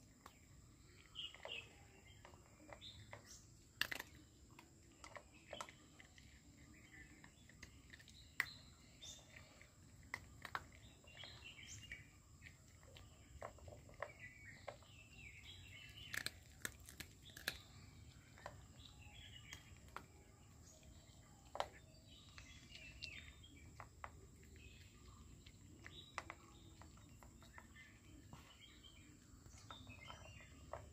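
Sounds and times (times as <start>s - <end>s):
birds chirping faintly: 0.0s - 30.9s
puppy crunching dry food: 0.0s - 30.9s.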